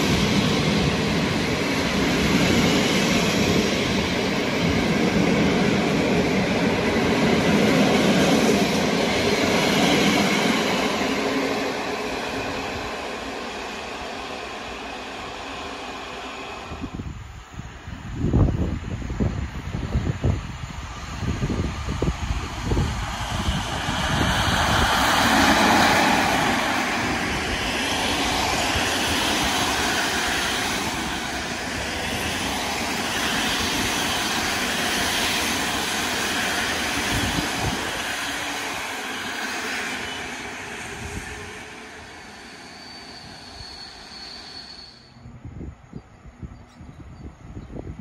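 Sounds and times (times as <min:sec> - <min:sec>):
passing train wheel and rail noise: 0:00.0 - 0:48.0.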